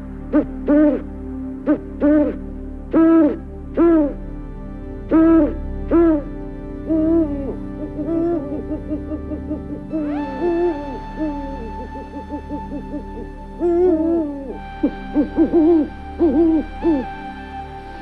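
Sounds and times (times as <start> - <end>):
soft music: 0.0 - 18.0
owl hooting: 0.3 - 4.2, 5.1 - 18.0.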